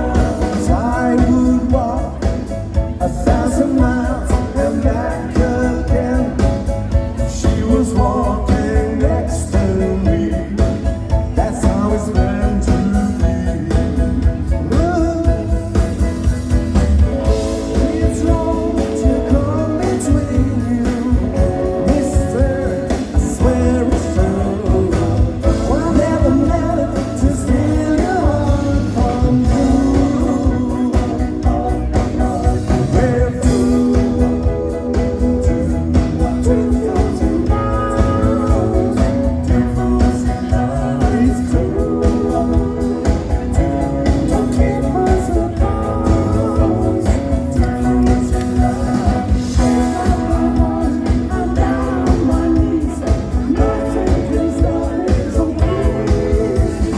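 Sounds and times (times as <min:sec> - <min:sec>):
person singing: 0:00.0 - 0:56.9
rock and roll band playing: 0:00.0 - 0:56.9.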